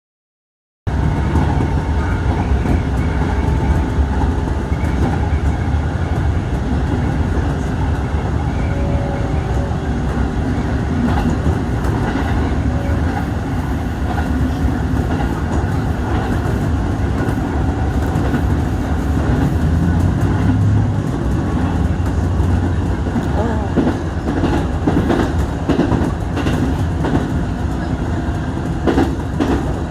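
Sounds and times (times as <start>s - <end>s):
train wheels rumbling on rail: 0.9s - 29.9s.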